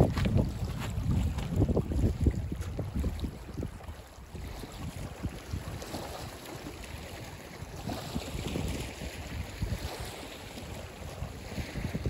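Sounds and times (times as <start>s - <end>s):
small waves lapping on pebbles: 0.0s - 12.0s
wind buffeting microphone: 0.0s - 12.0s.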